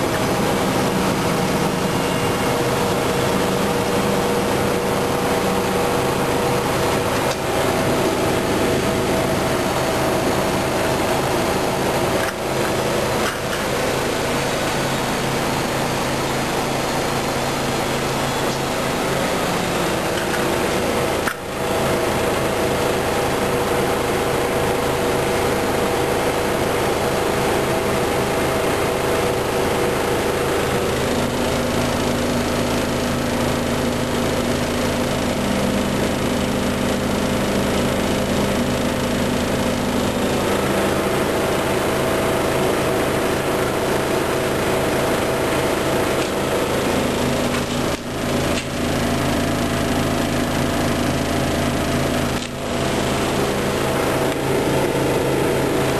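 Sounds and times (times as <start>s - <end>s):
washing machine motor hum and whine: 0.0s - 55.9s.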